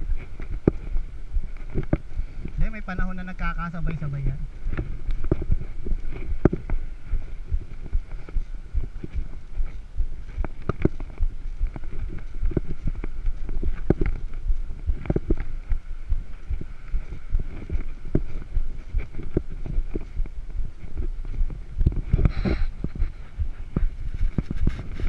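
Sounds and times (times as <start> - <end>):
wind rumble: 0.0 - 25.0.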